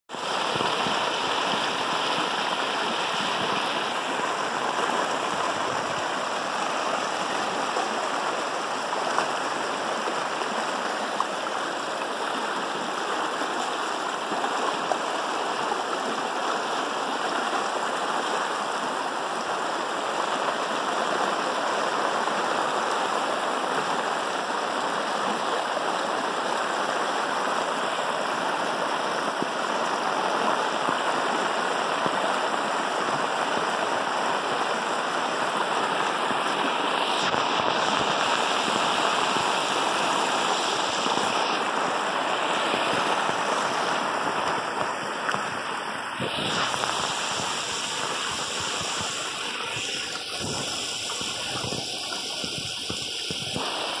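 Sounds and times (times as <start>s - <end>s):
floodwater rushing: 0.1s - 54.0s
heavy rain: 0.1s - 54.0s.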